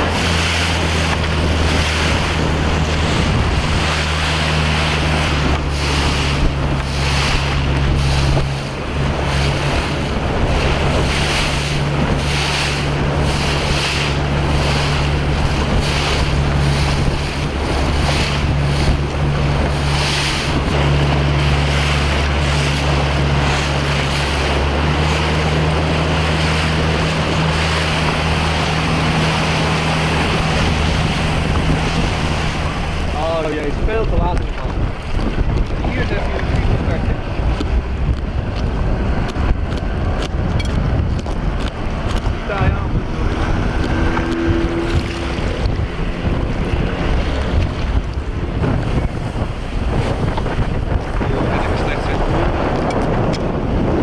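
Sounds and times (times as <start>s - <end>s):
motorboat engine drone: 0.0s - 54.0s
waves splashing against boat: 0.0s - 54.0s
wind buffeting microphone: 0.0s - 54.0s.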